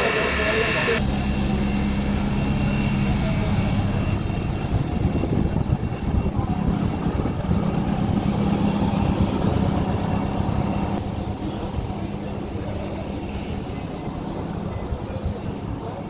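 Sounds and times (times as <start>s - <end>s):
locomotive rumble and hum: 0.0s - 16.0s.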